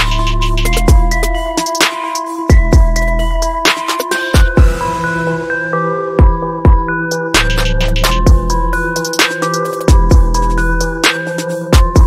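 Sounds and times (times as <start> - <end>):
electronic music with synth and bass: 0.0 - 12.0.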